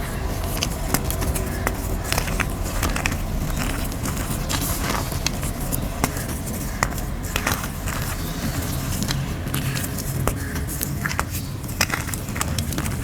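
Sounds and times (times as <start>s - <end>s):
chalk crumbling crackles: 0.0s - 13.0s
steady low rumble: 0.0s - 13.0s.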